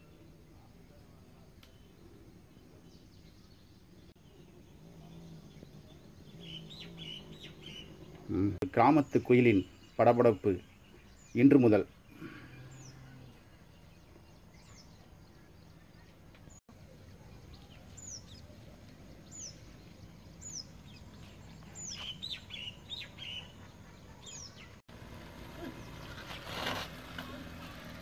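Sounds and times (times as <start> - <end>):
low bird chirps: 0.1 - 16.6, 17.2 - 24.8.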